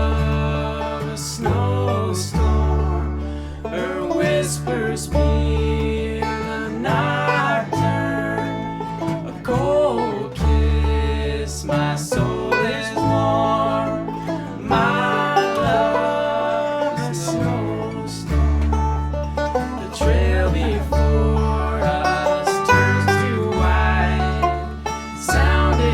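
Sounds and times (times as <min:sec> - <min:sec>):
acoustic guitar: 0:00.0 - 0:25.9
banjo: 0:00.0 - 0:25.9
bluegrass band playing: 0:00.0 - 0:25.9
fiddle: 0:00.0 - 0:25.9
upright bass: 0:00.0 - 0:25.9.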